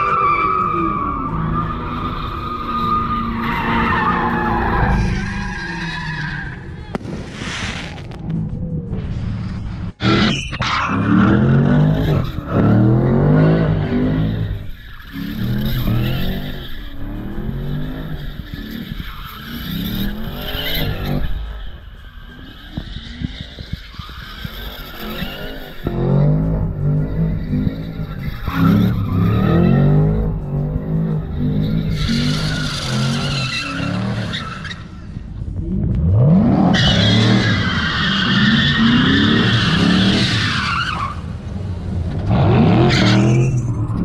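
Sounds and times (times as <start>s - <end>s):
tyres screeching: 0.0s - 6.9s, 10.0s - 35.3s, 36.4s - 41.4s
car engine revving: 0.0s - 44.0s.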